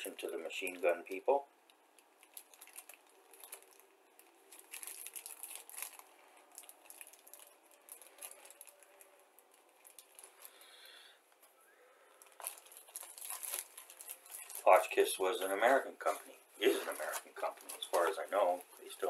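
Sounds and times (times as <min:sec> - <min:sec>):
plastic bags crinkling: 0:00.0 - 0:11.5, 0:12.1 - 0:19.0.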